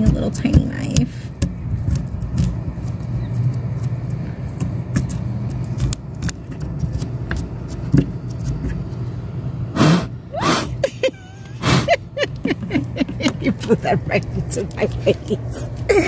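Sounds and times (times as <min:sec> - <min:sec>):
low vehicle-like rumble: 0:00.0 - 0:16.0.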